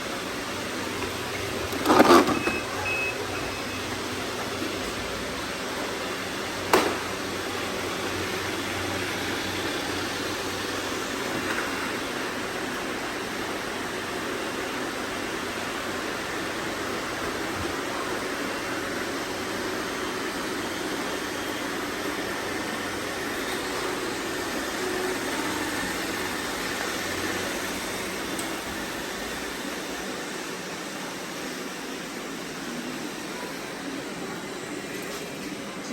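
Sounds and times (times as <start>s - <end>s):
robot vacuum cleaners humming: 0.0s - 35.9s.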